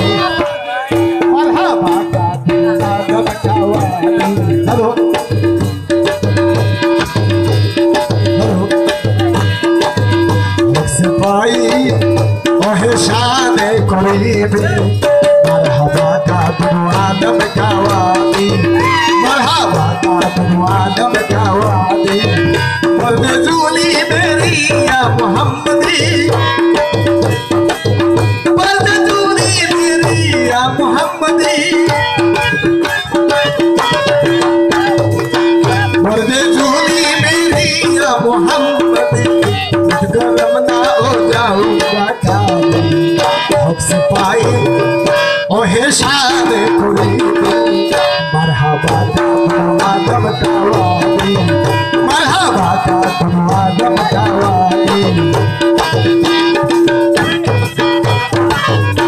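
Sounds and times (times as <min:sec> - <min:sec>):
harmonium drone and melody: 0:00.0 - 0:59.0
tabla rhythm: 0:00.0 - 0:59.0.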